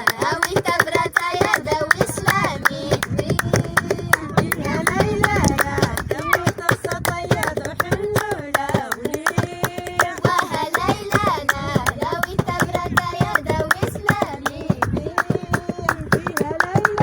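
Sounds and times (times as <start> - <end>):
hand clapping beat: 0.0 - 17.0
person singing: 3.1 - 17.0.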